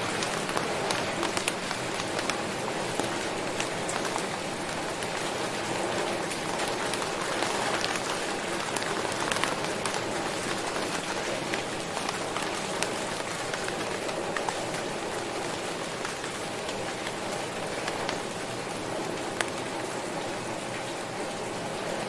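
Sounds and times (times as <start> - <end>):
rain hissing: 0.0 - 22.0
raindrops ticking on hard surface: 0.0 - 22.0.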